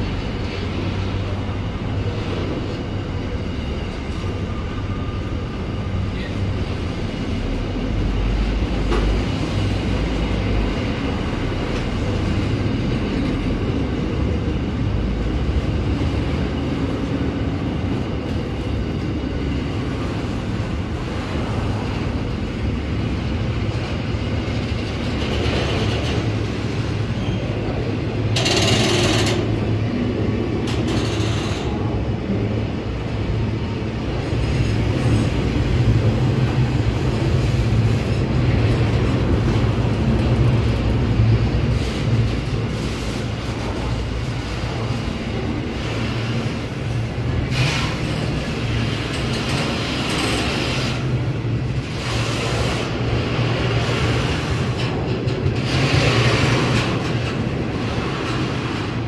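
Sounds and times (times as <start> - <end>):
freight train wheels rolling on rail: 0.0 - 59.0.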